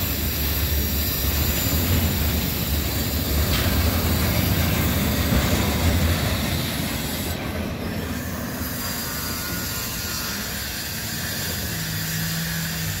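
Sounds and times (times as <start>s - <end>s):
freight cars rolling on rails: 0.0s - 13.0s.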